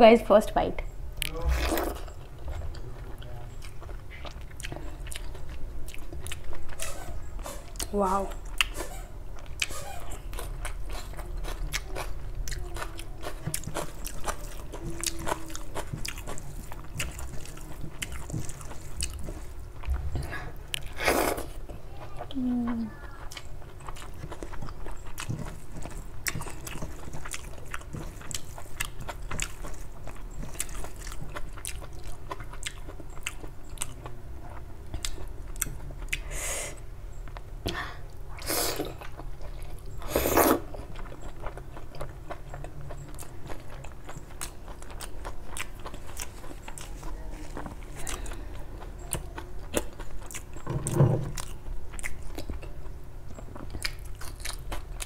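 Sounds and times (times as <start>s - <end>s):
chewing with wet mouth clicks: 1.2s - 6.8s, 7.7s - 8.8s, 9.4s - 20.0s, 23.0s - 36.3s, 39.0s - 55.0s.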